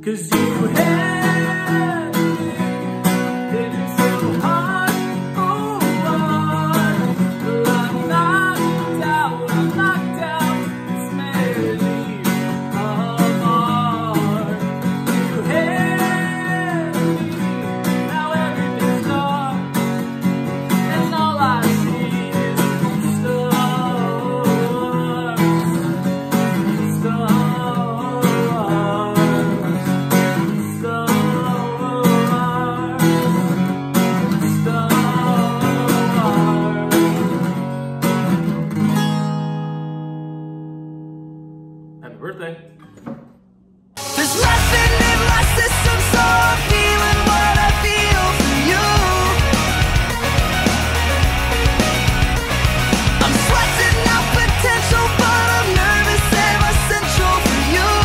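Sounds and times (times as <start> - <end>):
man singing: 0.0 - 19.8, 20.7 - 37.4, 44.0 - 50.3, 53.0 - 58.0
acoustic guitar strumming: 0.0 - 58.0.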